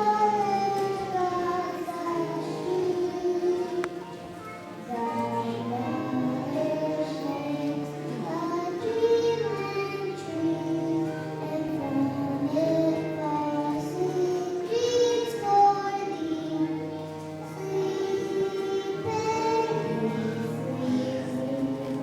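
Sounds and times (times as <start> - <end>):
children singing together: 0.0 - 22.0
musical accompaniment with low notes: 0.0 - 22.0.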